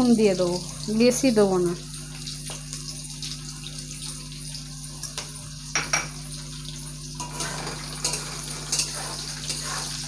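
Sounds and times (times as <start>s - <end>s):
meat sizzling in hot oil: 0.0s - 10.0s.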